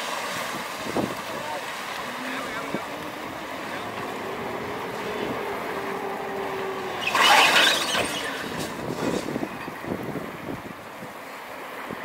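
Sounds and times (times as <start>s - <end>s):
ferry engine humming: 0.5s - 11.7s.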